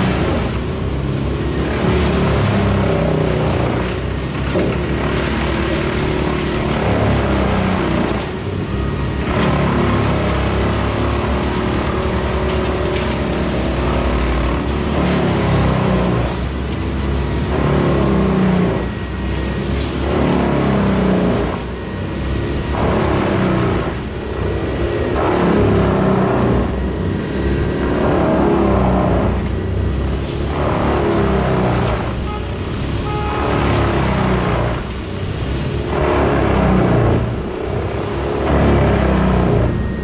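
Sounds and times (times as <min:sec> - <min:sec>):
heavy diesel engines running: 0:00.0 - 0:40.0.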